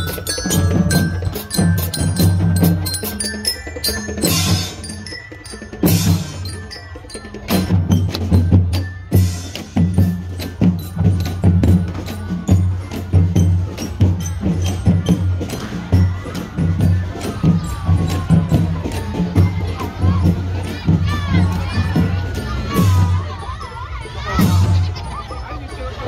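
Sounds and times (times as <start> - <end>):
bass drums: 0.0 - 5.1, 7.4 - 23.4.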